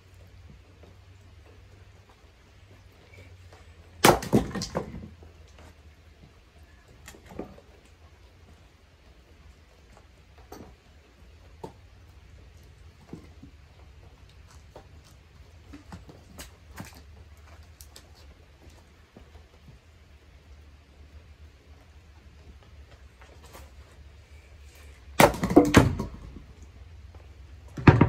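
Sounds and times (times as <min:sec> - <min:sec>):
faint rain hiss: 0:00.0 - 0:25.3
low steady rumble: 0:00.0 - 0:28.0.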